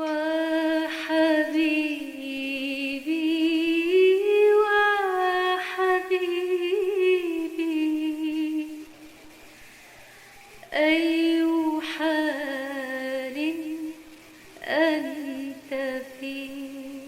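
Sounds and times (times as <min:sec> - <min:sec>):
woman singing a cappella: 0:00.0 - 0:09.1, 0:10.6 - 0:17.0.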